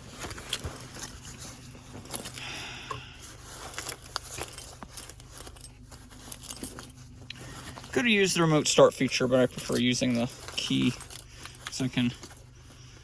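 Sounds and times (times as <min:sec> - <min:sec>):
small clicks and scrapes: 0:00.0 - 0:08.1, 0:09.3 - 0:13.0
keys jangling: 0:00.0 - 0:13.0
low steady hum: 0:00.0 - 0:13.0.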